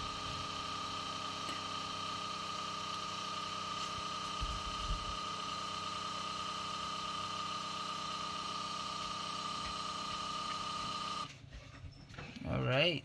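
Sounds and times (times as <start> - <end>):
coffee maker pump humming: 0.0 - 11.3.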